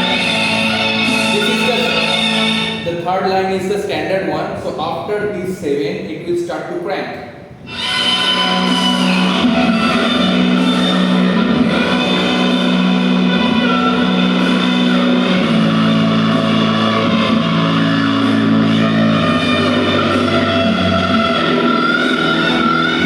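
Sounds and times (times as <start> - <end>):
distorted electric guitar chords: 0.0 - 3.1, 7.5 - 23.0.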